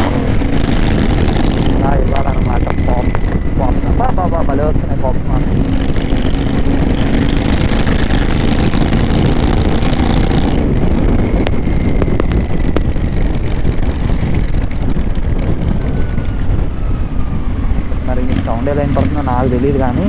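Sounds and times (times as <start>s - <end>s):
exhaust pops: 0.0s - 16.7s
loud motorcycle engine: 0.0s - 20.0s.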